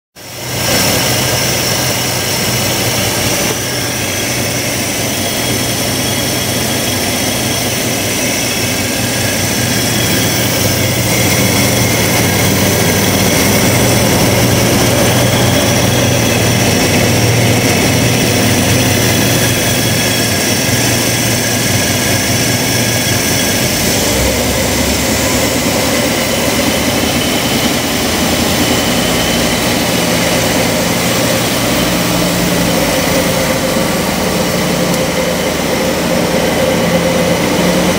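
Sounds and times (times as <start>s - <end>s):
car engine idling: 0.2s - 37.9s.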